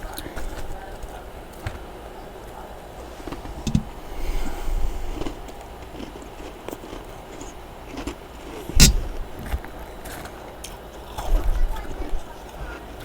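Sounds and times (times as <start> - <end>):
freezer frost crunching: 0.0 - 13.0.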